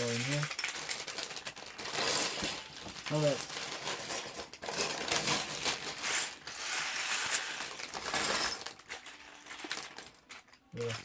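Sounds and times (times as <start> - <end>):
plastic pieces clattering: 0.0 - 11.0.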